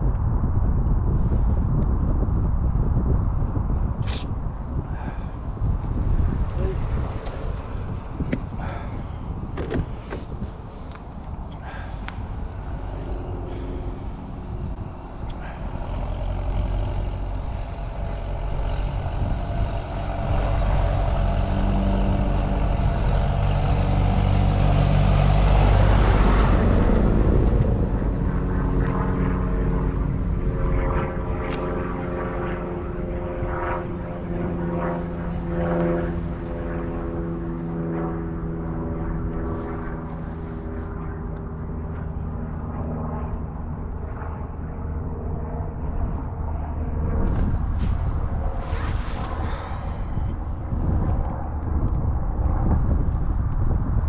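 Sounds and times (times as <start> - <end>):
bicycle road rumble: 0.0 - 54.0
engine drone: 0.0 - 54.0
wind: 0.0 - 54.0.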